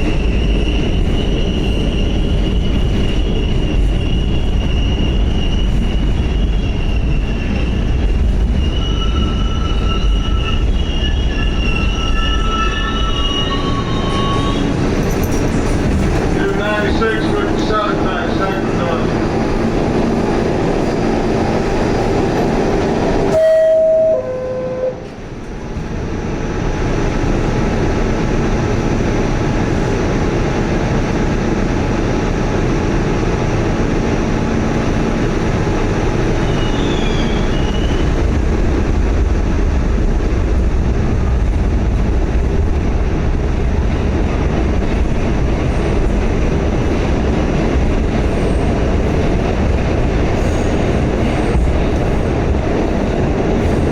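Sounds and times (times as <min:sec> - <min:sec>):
subway train rumble: 0:00.0 - 0:53.9.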